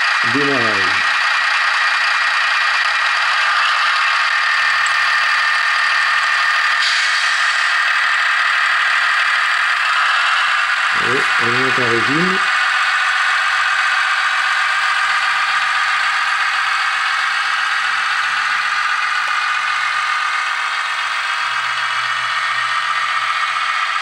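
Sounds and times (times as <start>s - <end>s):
tinny model diesel engine sound: 0.0s - 24.0s.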